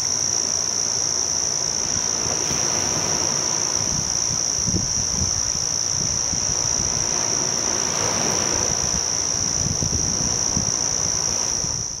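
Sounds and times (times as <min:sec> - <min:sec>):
insects buzzing high-pitched: 0:00.0 - 0:12.0.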